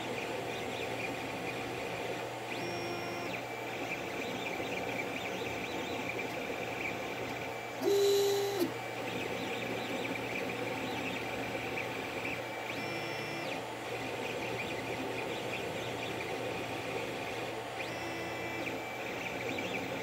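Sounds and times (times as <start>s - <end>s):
printer hum: 0.0s - 20.0s
stepper motors whirring: 0.1s - 20.0s
high motor whine: 1.2s - 20.0s.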